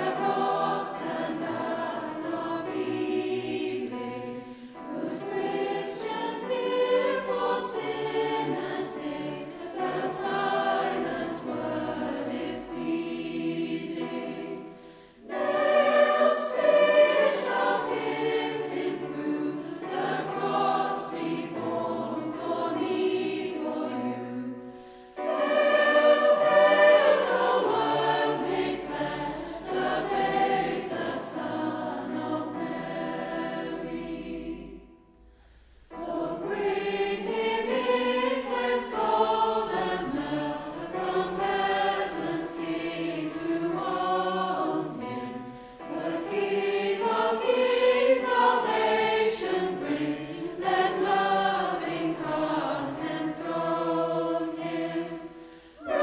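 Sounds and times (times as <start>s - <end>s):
choir singing a carol: 0.0s - 56.0s.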